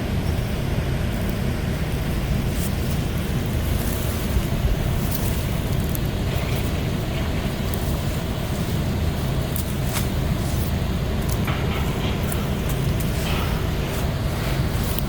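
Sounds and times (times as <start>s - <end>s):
wind buffeting microphone: 0.8s - 15.0s.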